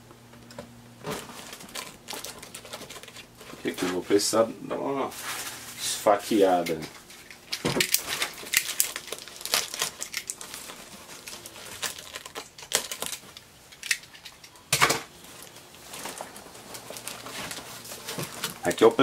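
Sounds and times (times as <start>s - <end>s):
plastic crinkling: 1.0s - 4.3s, 5.1s - 19.0s.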